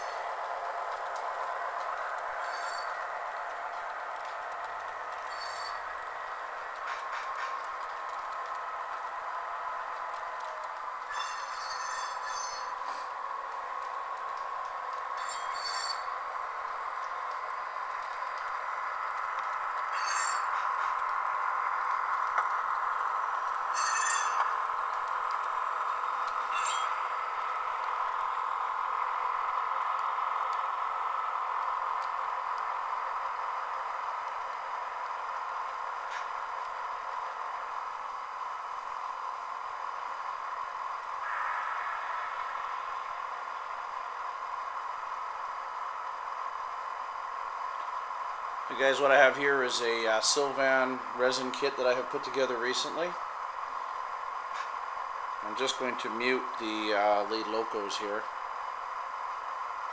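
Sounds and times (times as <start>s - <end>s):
model train rumble: 0.0s - 59.9s.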